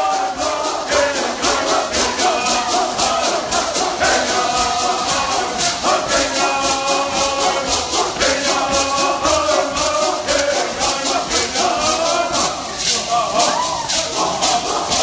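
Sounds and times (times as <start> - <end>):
hand rattles shaken: 0.0 - 15.0
voices chanting in unison: 0.0 - 15.0.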